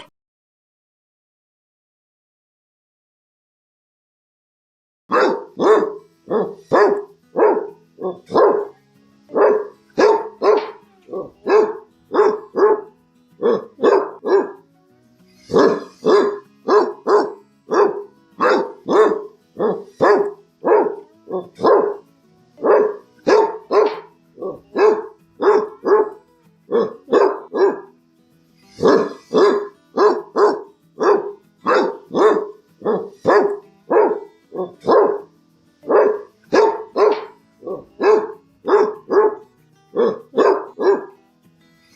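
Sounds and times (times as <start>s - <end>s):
dog barking deeply: 5.1s - 14.6s, 15.5s - 22.0s, 22.6s - 27.9s, 28.8s - 41.2s.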